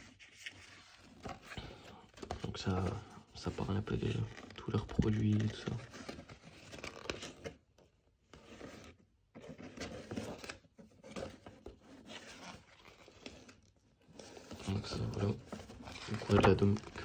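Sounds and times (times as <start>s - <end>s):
paper pages rustling: 0.0s - 7.6s, 8.3s - 17.0s.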